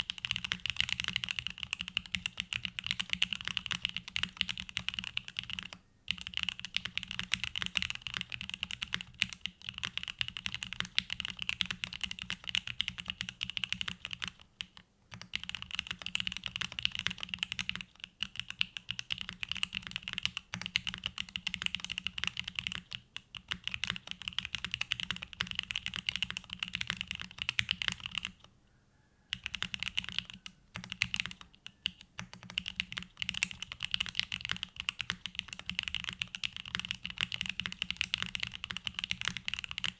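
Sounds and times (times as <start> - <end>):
mechanical keyboard typing: 0.0 - 28.5, 29.3 - 39.9.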